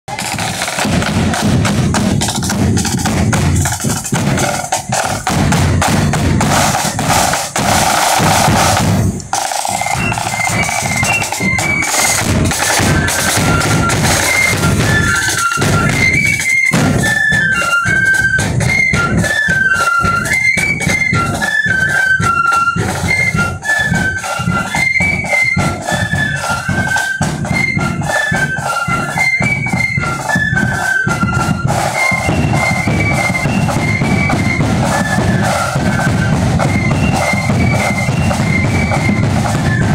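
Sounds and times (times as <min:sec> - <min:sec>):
flutes playing marching tune: 0:00.1 - 0:39.9
snare and bass drums: 0:00.1 - 0:39.9.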